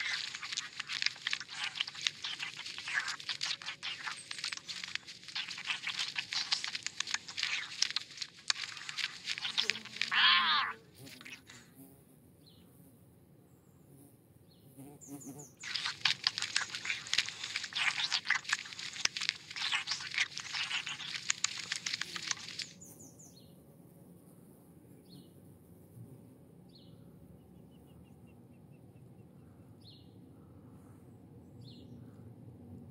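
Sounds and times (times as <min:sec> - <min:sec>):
songbirds chattering and chirping: 0:00.0 - 0:12.8, 0:13.8 - 0:23.6, 0:26.6 - 0:32.3.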